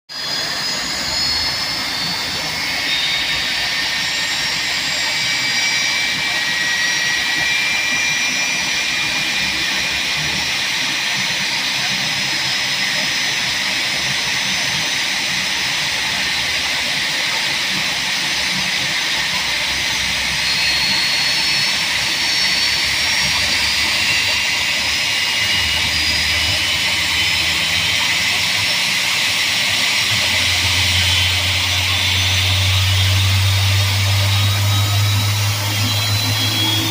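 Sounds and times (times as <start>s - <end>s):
jet engine starting: 0.1s - 36.9s.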